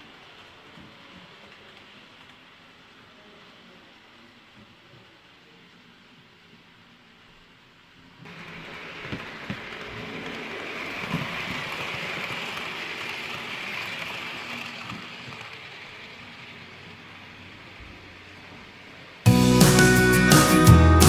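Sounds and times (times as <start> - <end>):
model train running past: 0.0 - 21.0.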